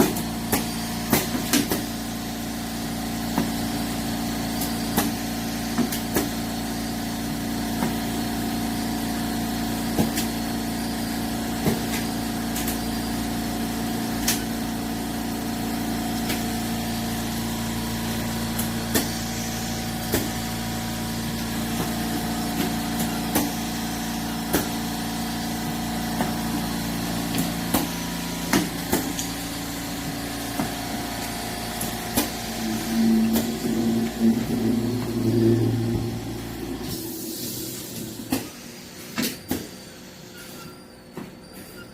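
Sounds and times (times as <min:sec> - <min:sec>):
machine motor hum: 0:00.0 - 0:39.6.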